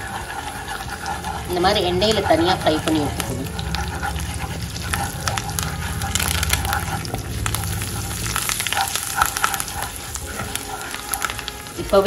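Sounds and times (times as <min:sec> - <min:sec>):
spatula stirring: 0:00.0 - 0:12.0
spices sizzling in hot oil: 0:00.0 - 0:12.0.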